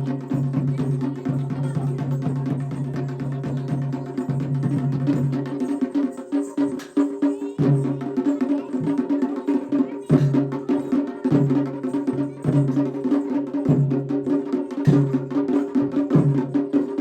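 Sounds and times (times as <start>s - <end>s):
quick dense percussion: 0.0s - 17.0s.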